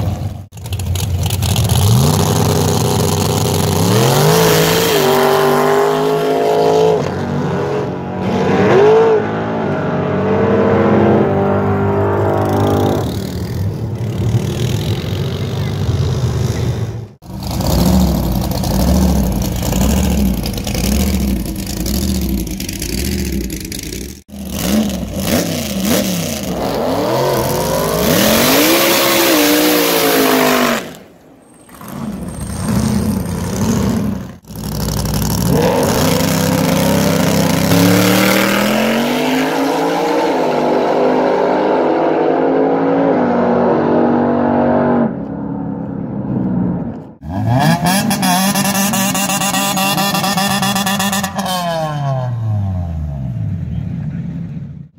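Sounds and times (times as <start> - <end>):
race car engines accelerating: 1.3 - 54.9.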